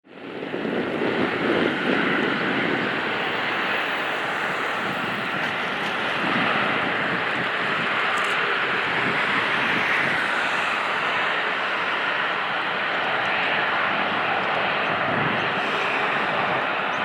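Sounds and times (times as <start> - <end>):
jet aircraft rush: 0.2 - 17.0.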